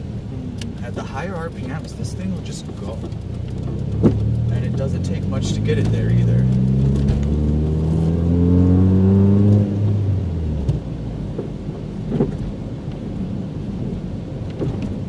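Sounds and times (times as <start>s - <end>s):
car engine accelerating: 0.0s - 15.0s
road and tyre rumble: 0.0s - 15.0s.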